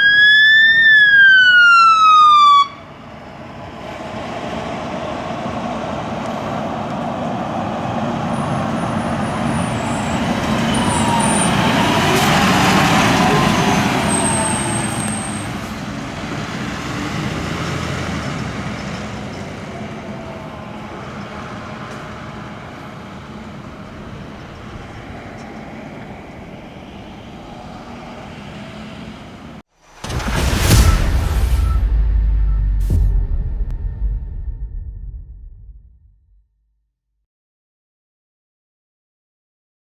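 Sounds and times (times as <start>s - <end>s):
fire engine driving past: 0.0s - 33.2s.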